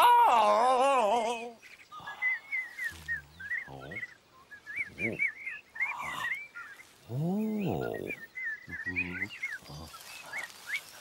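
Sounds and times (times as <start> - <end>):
short low bird calls: 0.0 - 11.0.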